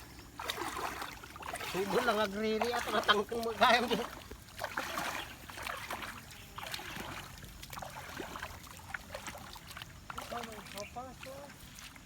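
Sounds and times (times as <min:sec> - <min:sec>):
muddy water splashing and sloshing: 0:00.0 - 0:12.0.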